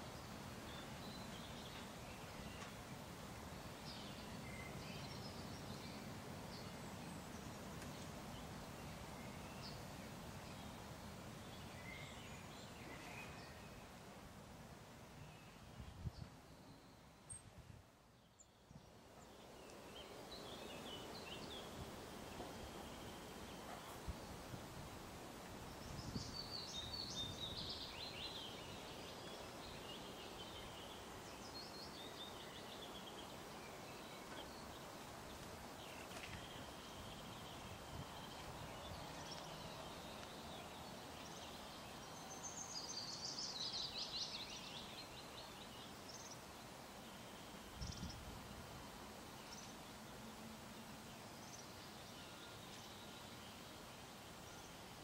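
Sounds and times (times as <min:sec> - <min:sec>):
faint outdoor background noise: 0:00.0 - 0:55.0
songbirds chirping: 0:00.0 - 0:55.0.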